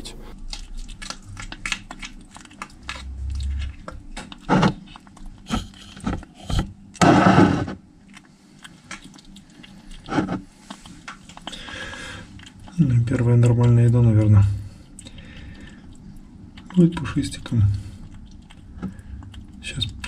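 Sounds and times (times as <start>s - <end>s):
kitten chewing and lapping: 0.4s - 20.0s.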